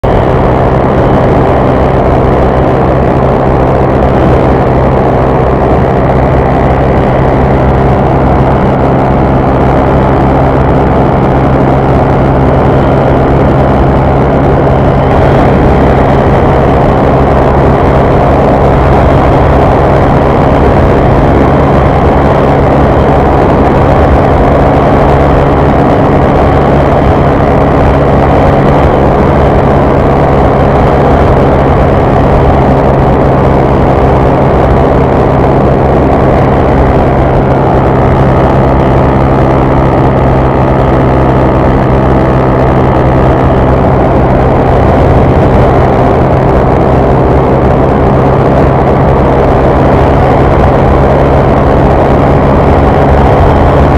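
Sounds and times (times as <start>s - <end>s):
motorcycle engine running hard: 0.0s - 53.9s
wind noise: 0.0s - 53.9s.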